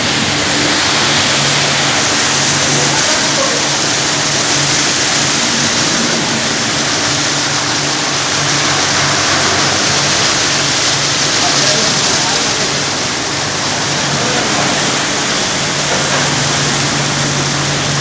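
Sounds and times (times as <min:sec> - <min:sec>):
water jets hissing: 0:00.0 - 0:18.0.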